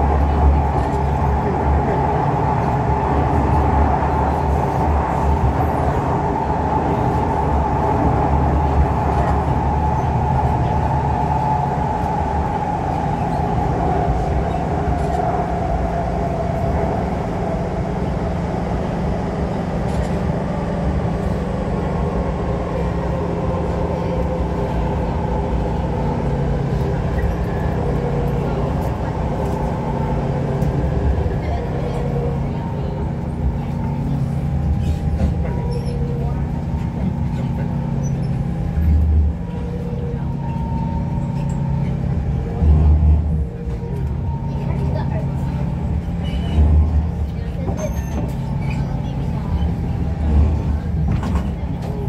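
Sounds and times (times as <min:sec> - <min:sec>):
wheels rumbling on track: 0:00.0 - 0:52.0.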